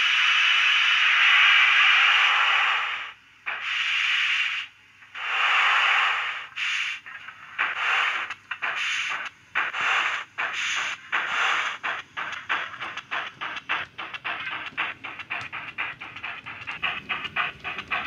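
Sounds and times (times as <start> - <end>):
steam locomotive chuffs from speaker: 0.0 - 18.0.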